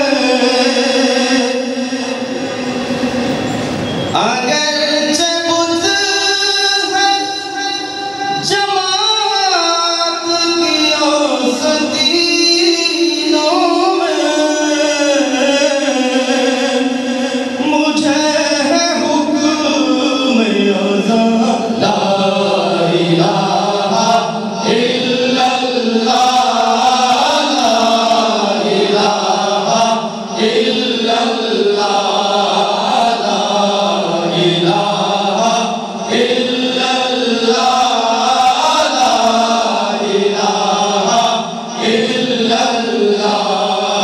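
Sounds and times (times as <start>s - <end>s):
lead voice singing: 0.0s - 3.4s, 4.1s - 44.0s
male choir singing: 0.0s - 44.0s.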